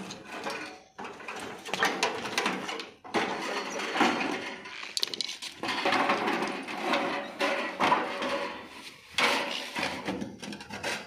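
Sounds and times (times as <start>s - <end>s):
metal panels scraping and knocking: 0.0s - 11.0s.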